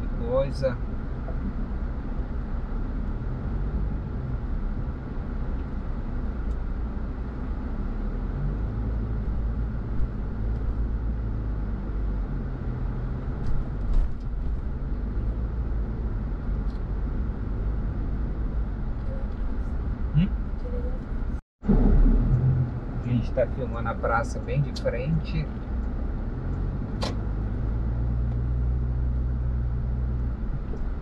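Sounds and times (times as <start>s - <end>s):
car engine hum: 0.0s - 31.0s
tyre and road noise: 0.0s - 31.0s.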